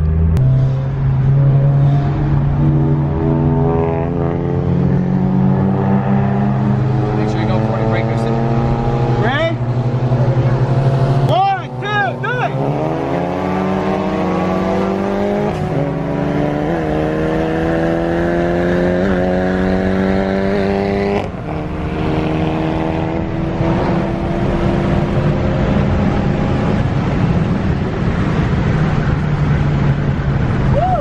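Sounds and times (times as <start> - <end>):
car engine at full throttle: 0.0 - 31.0
road and wind noise: 0.0 - 31.0.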